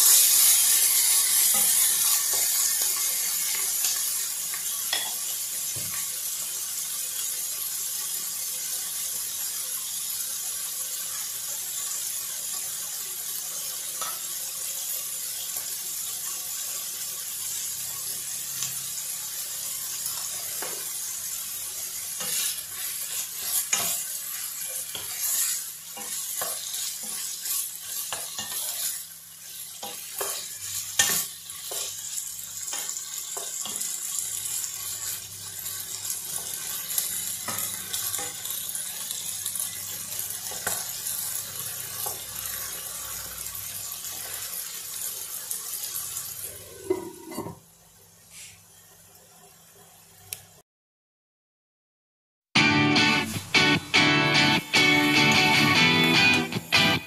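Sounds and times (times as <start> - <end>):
chicken and onion sizzling: 0.0 - 50.6, 52.6 - 57.0.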